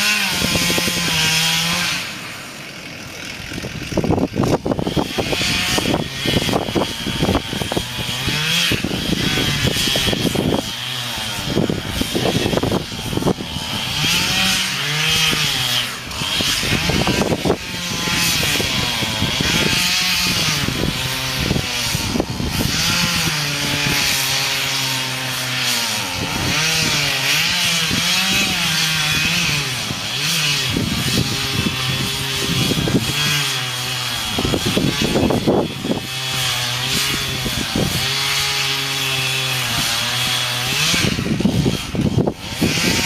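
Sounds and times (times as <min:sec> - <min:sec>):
chainsaw cutting wood: 0:00.0 - 0:43.0.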